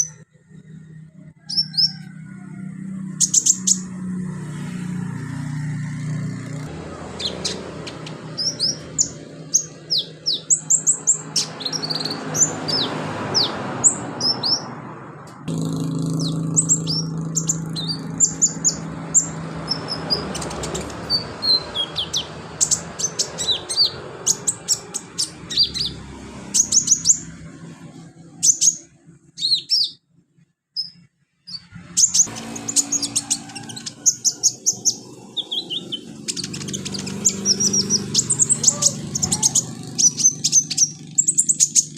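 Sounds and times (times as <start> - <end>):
bird chirping and twittering: 0.0 - 30.0, 30.8 - 41.9.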